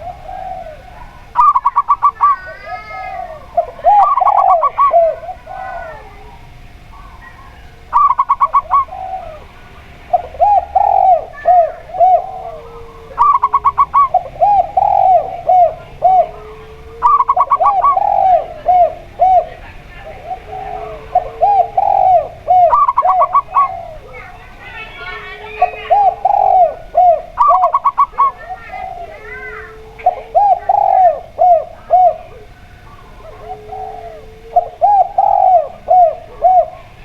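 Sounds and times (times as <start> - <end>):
doves cooing: 0.0 - 37.0.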